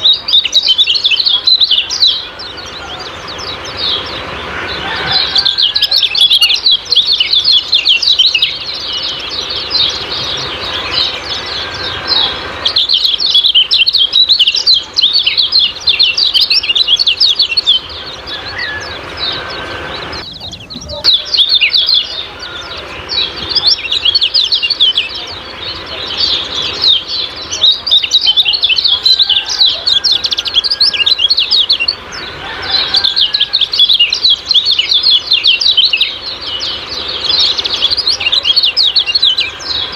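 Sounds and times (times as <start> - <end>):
songbirds chirping fast: 0.0 - 39.9.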